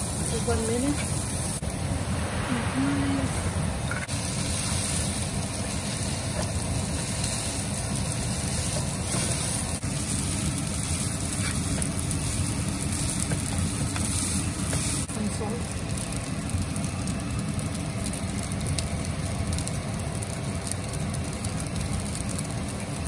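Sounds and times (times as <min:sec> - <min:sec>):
gas stove rumble and hiss: 0:00.0 - 0:23.0.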